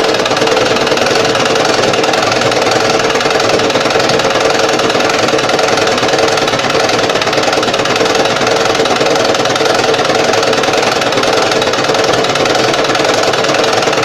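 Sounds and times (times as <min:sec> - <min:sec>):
sewing machine running: 0:00.0 - 0:14.0.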